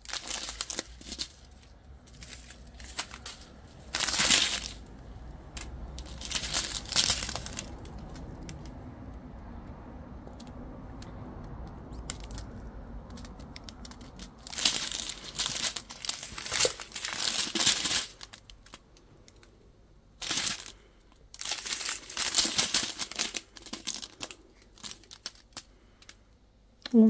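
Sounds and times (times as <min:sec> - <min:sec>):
plastic strips crinkling: 0:00.0 - 0:08.8, 0:10.2 - 0:19.6, 0:20.2 - 0:26.2.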